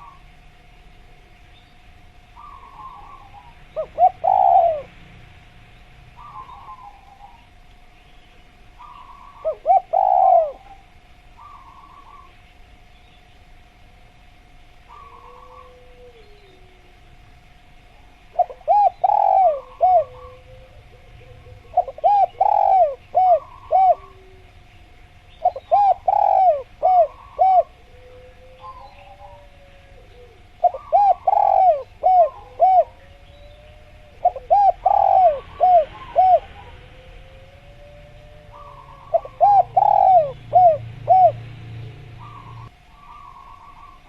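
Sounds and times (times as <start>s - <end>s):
dove cooing: 0.0s - 0.3s, 2.4s - 5.0s, 6.1s - 7.6s, 8.8s - 12.4s, 14.9s - 17.0s, 17.9s - 44.0s
small birds chirping: 0.0s - 13.4s, 14.8s - 16.6s, 17.9s - 27.9s, 28.6s - 37.2s, 38.1s - 44.0s.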